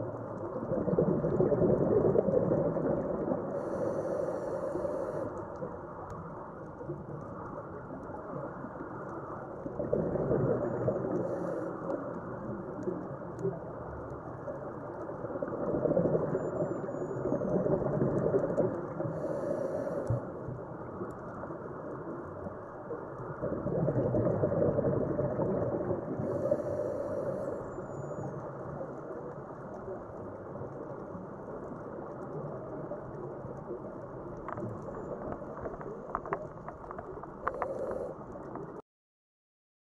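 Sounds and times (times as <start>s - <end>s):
exhaled bubbles rumbling: 0.0s - 38.8s
muffled underwater noise: 0.0s - 38.8s.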